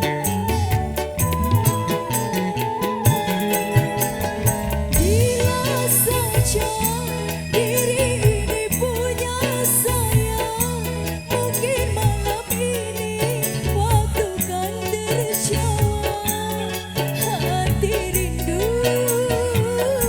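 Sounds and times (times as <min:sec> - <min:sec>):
song with ornamented melody: 0:00.0 - 0:20.0.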